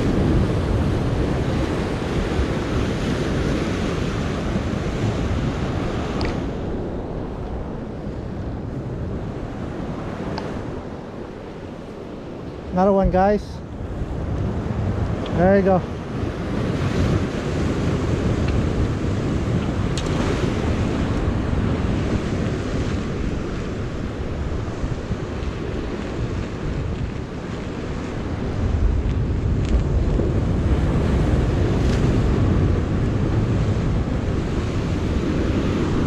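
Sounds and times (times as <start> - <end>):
surf washing against rocks: 0.0 - 36.0
wind buffeting microphone: 0.0 - 36.0.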